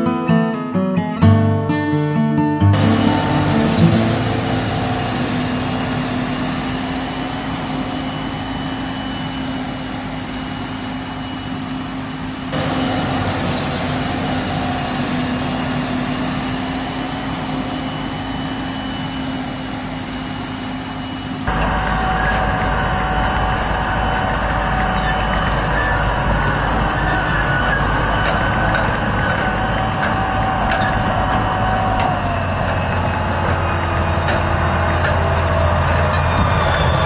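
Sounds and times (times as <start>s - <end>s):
forage harvester engine hum: 2.6s - 37.0s
thin high whine: 2.6s - 37.0s
broad rushing noise: 2.7s - 37.0s.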